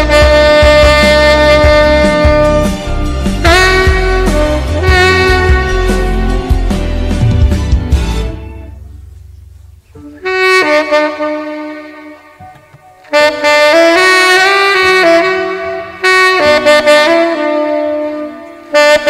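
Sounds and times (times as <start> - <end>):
tenor saxophone pop ballad melody: 0.0 - 9.1, 10.0 - 19.0.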